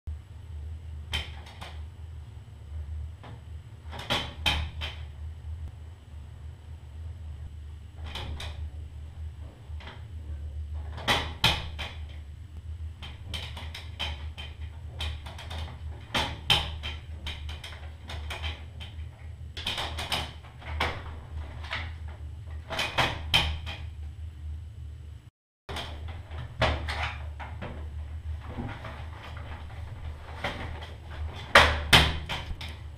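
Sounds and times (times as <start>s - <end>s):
low steady hum: 0.1s - 32.9s.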